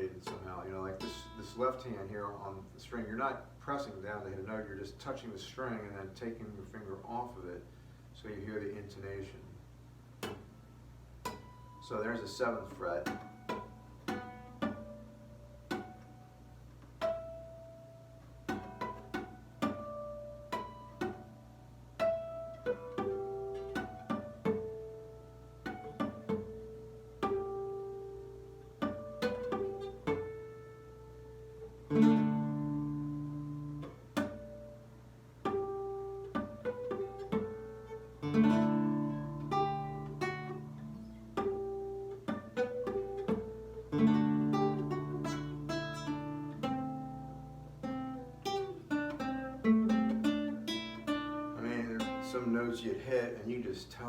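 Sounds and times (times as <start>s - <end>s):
classical guitar fingerpicking: 0.0s - 2.3s, 10.2s - 53.4s.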